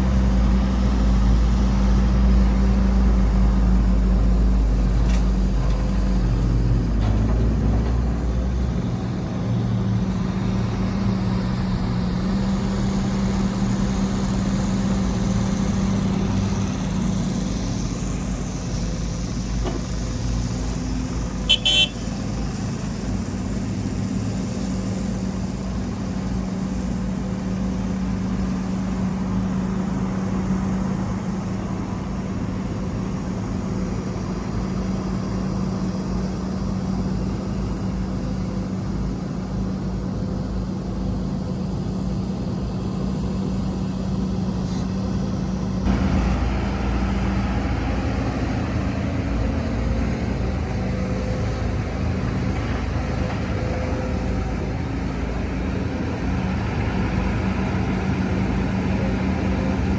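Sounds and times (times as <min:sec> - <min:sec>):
diesel machinery engine hum: 0:00.0 - 0:59.9.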